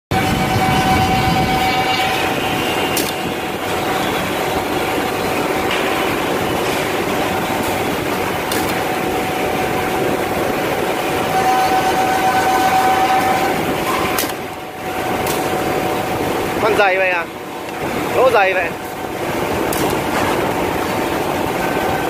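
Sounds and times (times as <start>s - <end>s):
mortising machine running: 0.1s - 22.0s.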